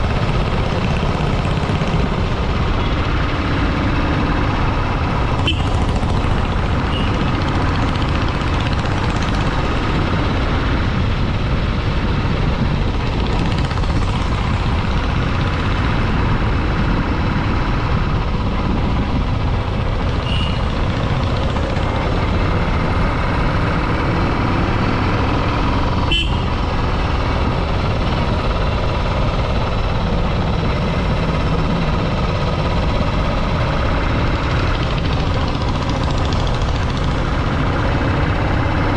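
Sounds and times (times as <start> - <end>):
motorcycle engine and road rumble: 0.0 - 38.9.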